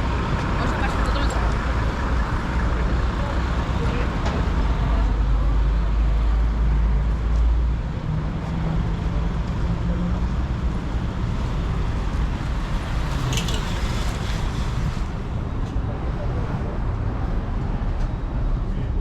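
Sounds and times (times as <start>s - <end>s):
deep vehicle engine rumble: 0.0s - 19.0s
passing traffic: 0.0s - 19.0s.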